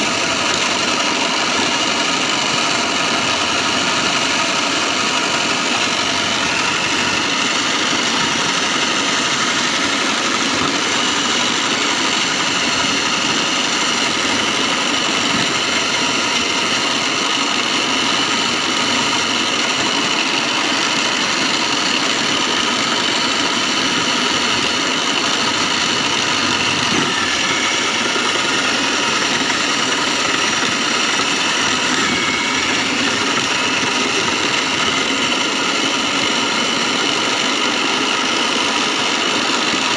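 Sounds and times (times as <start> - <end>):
high steady whine: 0.0 - 39.9
shredding machine drone: 0.0 - 39.9.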